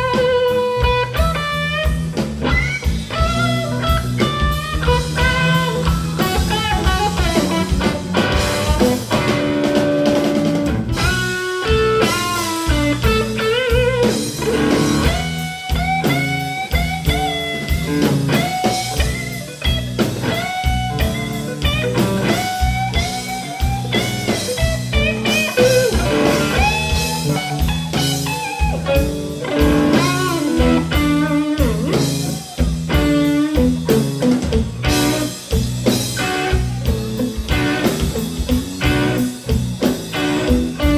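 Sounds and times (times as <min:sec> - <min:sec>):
bass guitar: 0:00.0 - 0:40.9
drum kit: 0:00.0 - 0:40.9
electric guitar lead: 0:00.0 - 0:40.9.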